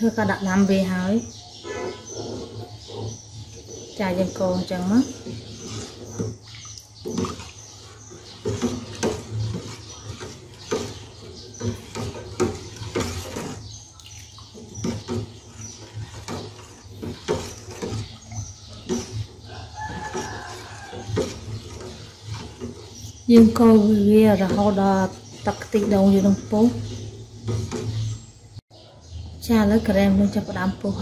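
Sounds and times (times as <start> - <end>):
metal ladle scraping a pot: 0.1 - 28.6.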